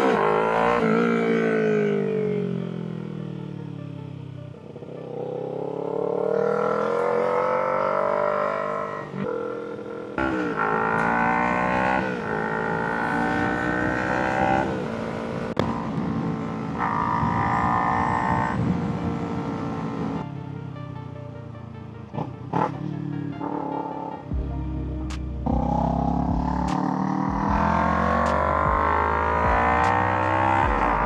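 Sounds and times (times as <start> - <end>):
motorcycle engine revving through gears: 0.0 - 20.3, 25.4 - 31.0.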